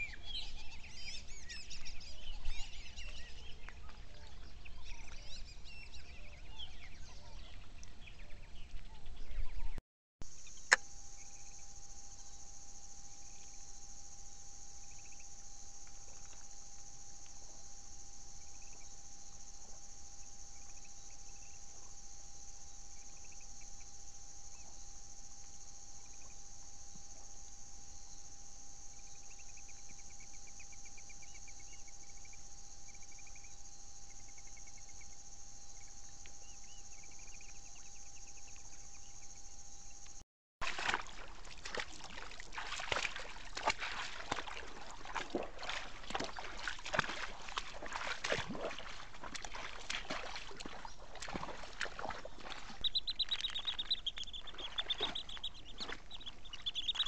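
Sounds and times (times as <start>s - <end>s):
insect chirping calls: 0.0s - 7.5s, 10.2s - 57.0s
crickets droning: 0.0s - 9.4s, 10.2s - 57.0s
insect pulsed trill: 10.2s - 57.0s.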